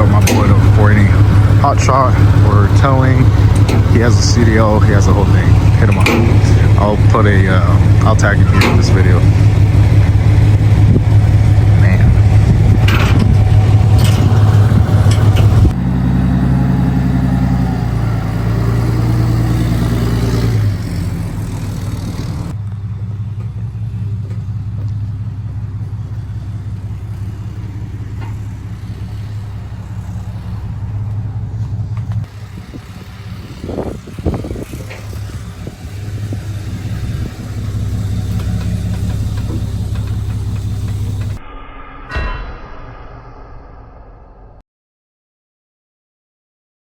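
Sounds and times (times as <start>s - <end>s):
vehicle engine droning: 0.0s - 41.4s.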